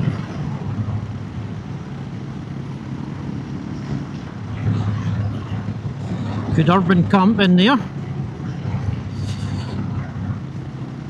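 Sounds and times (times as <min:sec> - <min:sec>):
motorcycle engine drone: 0:00.0 - 0:11.0
wind and road noise: 0:00.0 - 0:11.0.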